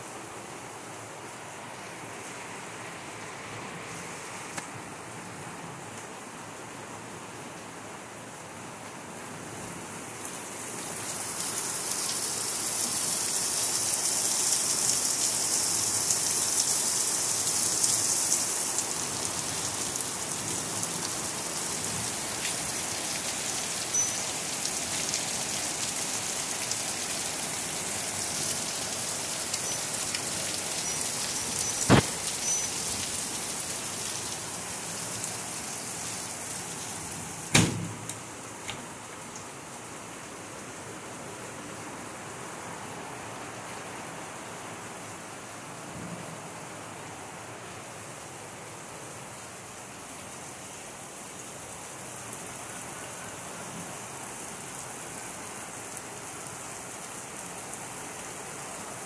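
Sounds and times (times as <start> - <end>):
heavy rain pouring: 9.1 - 59.0.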